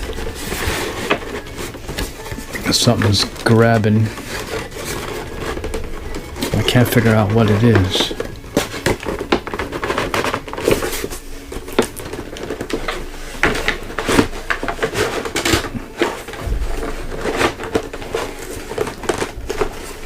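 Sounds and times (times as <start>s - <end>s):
cardboard rustling and scraping: 0.0s - 20.0s.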